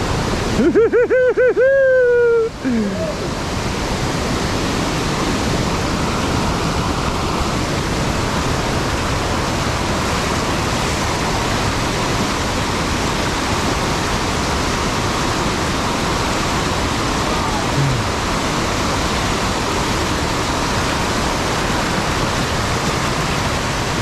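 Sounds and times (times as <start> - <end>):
fast-flowing water rushing: 0.0 - 24.0.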